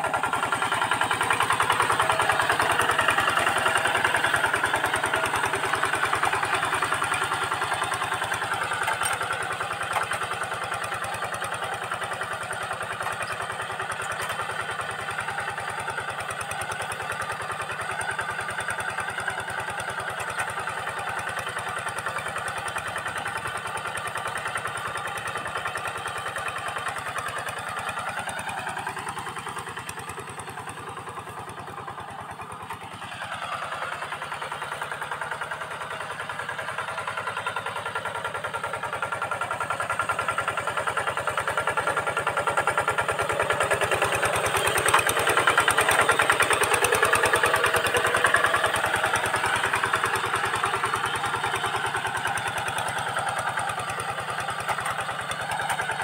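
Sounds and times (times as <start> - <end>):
diesel tractor engine under load: 0.0 - 56.0.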